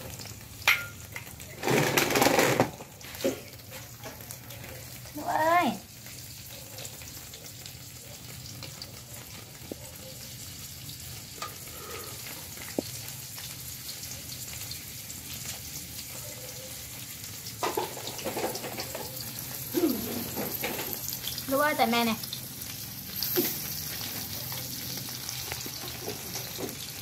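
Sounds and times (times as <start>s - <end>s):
eggs sizzling in a wok: 0.0s - 27.0s.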